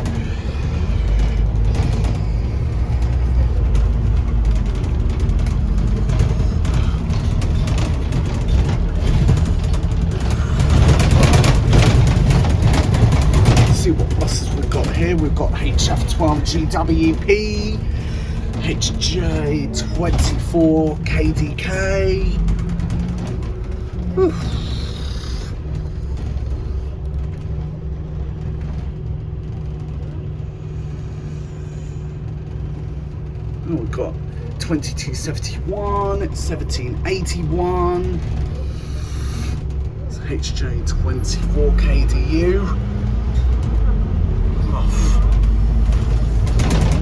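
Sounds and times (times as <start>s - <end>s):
bus body rattling: 0.0s - 47.0s
bus diesel engine rumble: 0.0s - 47.0s.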